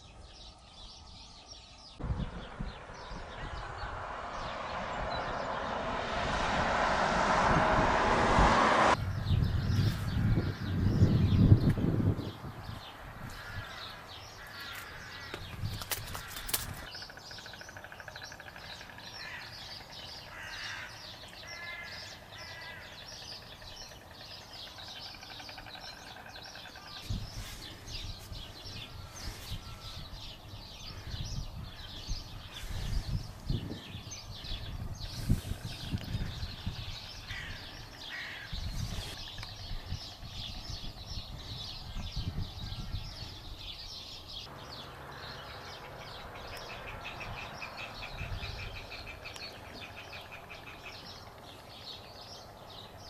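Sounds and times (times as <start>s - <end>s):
birds chirping and calling: 0.0s - 5.7s, 8.9s - 53.0s
low wind rumble: 0.1s - 53.0s.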